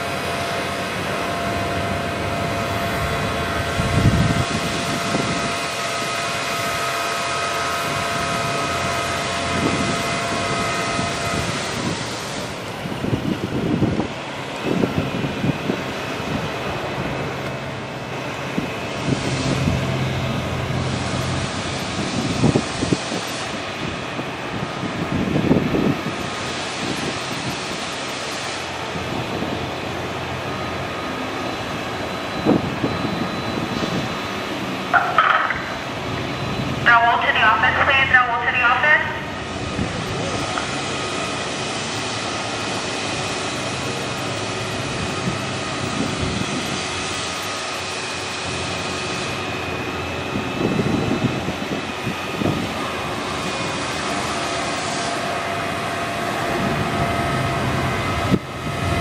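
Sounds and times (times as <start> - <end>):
crane engine and hydraulic whine: 0.0 - 59.0
wind gusts on microphone: 0.9 - 6.9, 7.8 - 28.0, 28.6 - 37.8, 39.0 - 41.4, 44.0 - 47.4, 48.5 - 59.0.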